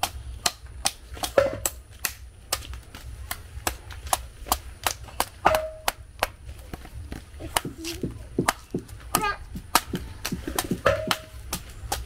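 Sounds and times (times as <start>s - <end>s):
machete chopping coconut husk: 0.0s - 12.0s.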